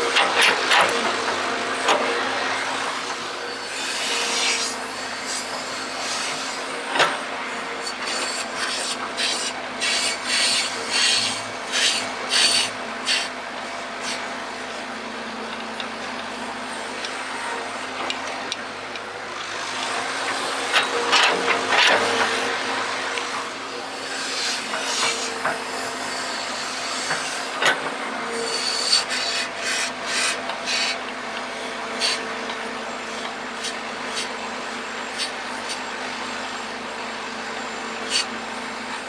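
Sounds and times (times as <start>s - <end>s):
excavator machine hum: 0.0s - 39.0s.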